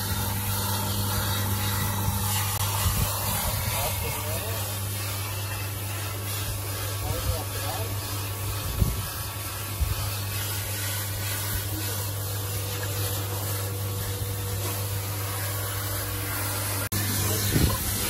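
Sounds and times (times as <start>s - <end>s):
pump humming: 0.0s - 18.0s
water spraying from hose: 0.0s - 18.0s.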